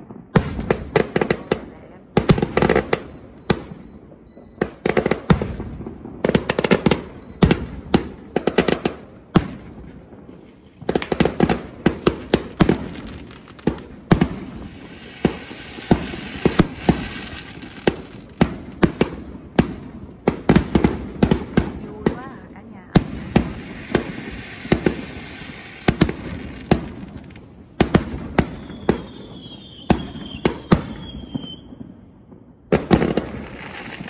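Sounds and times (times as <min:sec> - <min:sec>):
firework bangs: 0:00.0 - 0:34.0
firework crackling pops: 0:00.0 - 0:34.0
hissing firework crackle: 0:04.7 - 0:32.0, 0:32.7 - 0:34.0.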